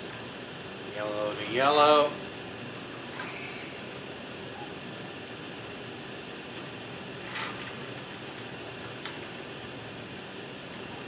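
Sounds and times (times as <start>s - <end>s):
wires rustling: 0.0s - 9.5s
air handling unit hum: 0.0s - 11.0s.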